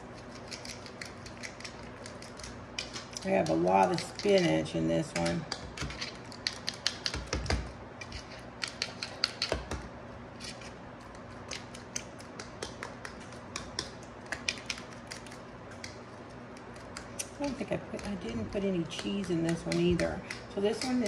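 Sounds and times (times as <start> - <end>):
fork beating eggs in glass bowl: 0.0 - 9.8, 10.4 - 21.0.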